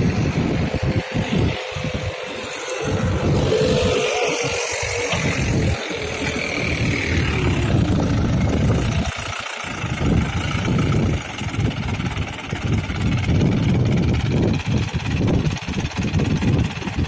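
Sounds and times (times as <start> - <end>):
engine running unevenly: 0.0 - 17.0.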